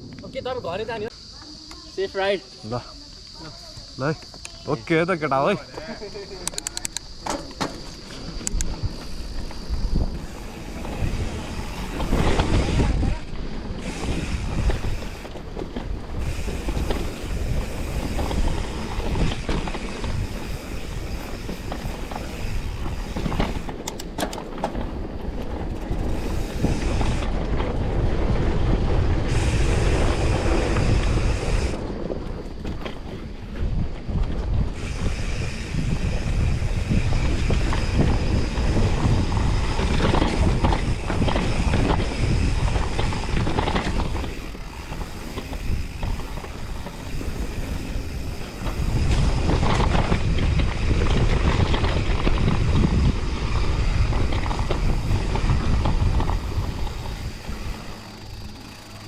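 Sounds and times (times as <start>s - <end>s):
wind buffeting microphone: 2.7s - 59.0s
mountain bike rumbling and rattling: 4.2s - 59.0s.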